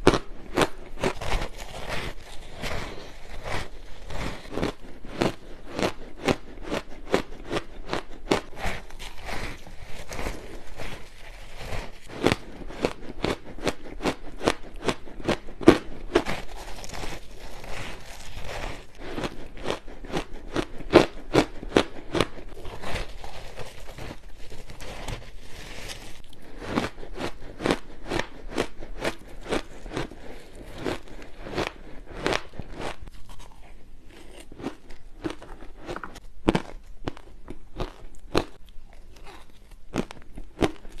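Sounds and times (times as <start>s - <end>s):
ice crunching being chewed: 0.0s - 41.0s.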